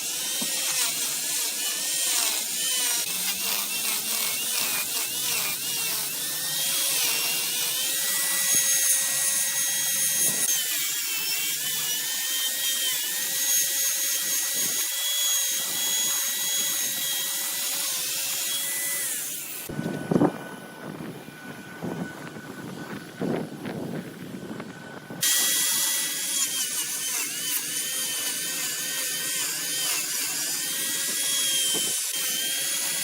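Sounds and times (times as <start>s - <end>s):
wood lathe whine: 0.0s - 33.0s.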